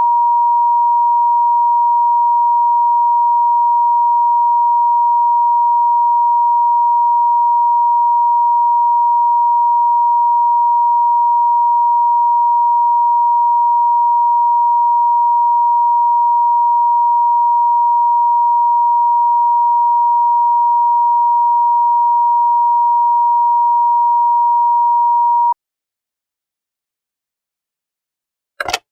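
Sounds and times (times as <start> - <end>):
steady telephone line tone: 0.0 - 25.6.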